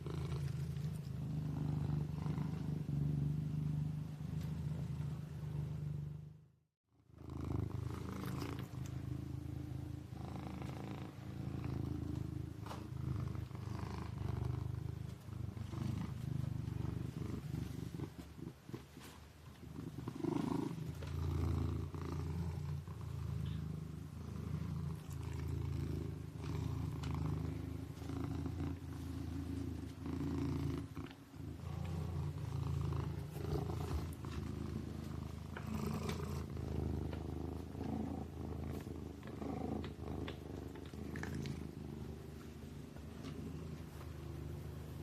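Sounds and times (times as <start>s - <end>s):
kitten purring: 0.0s - 45.0s.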